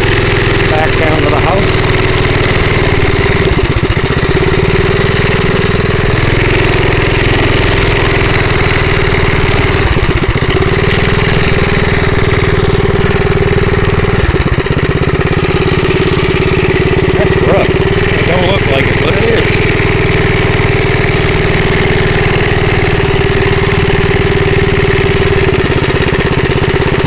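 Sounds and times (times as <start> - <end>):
small gas engine running: 0.0 - 27.0.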